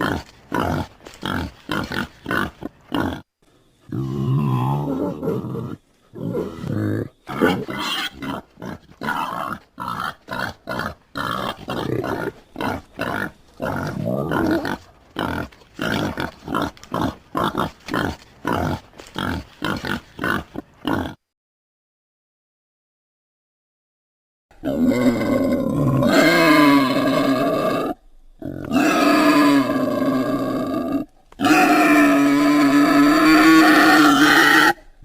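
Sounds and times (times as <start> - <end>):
wild boar grunting: 0.0 - 3.3, 3.9 - 21.2, 24.6 - 35.0.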